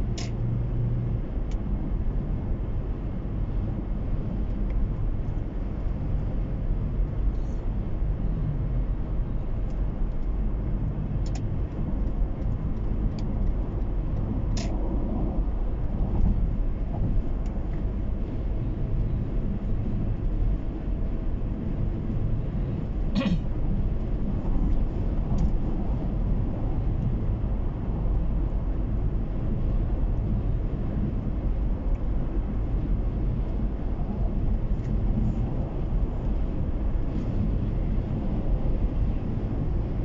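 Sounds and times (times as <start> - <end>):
car road and engine noise: 0.0 - 40.0.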